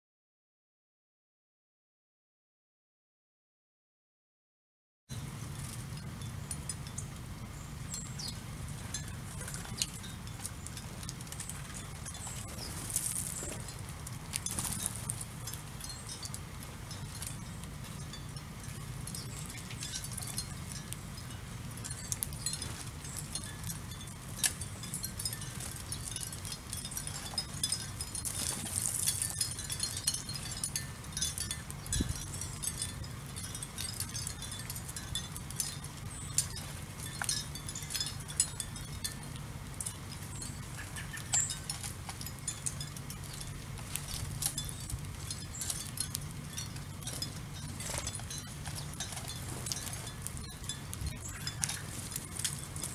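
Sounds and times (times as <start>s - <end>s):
low hum: 5.1s - 52.9s
small birds chirping: 5.1s - 52.9s.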